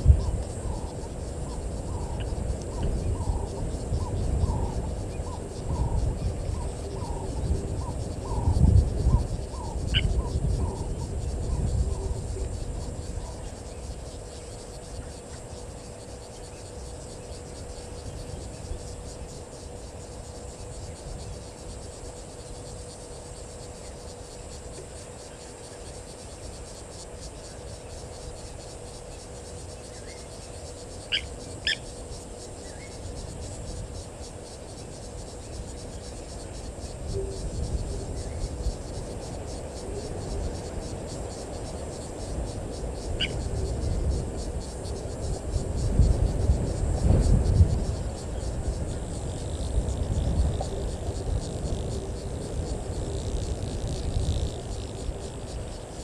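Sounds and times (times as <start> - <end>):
faint steady hum: 0.0 - 56.0
insects trilling: 0.0 - 56.0.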